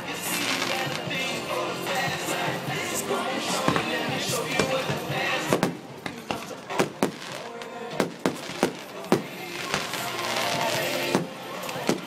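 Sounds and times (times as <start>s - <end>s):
background music: 0.0s - 12.0s
fireworks bursting: 0.0s - 12.0s.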